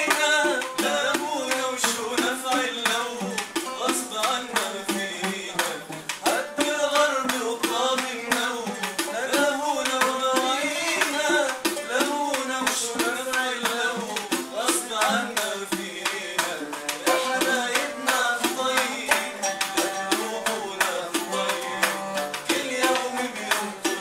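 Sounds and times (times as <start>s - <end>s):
frame drum beat: 0.0s - 24.0s.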